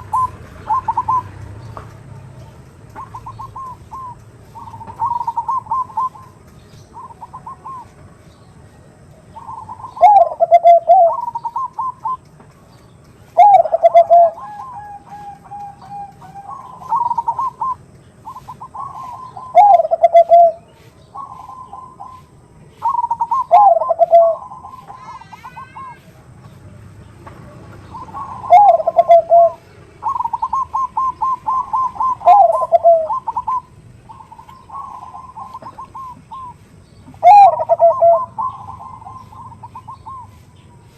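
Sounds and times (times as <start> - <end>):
dove cooing: 0.0 - 8.0, 9.3 - 12.2, 13.3 - 26.2, 27.8 - 40.6.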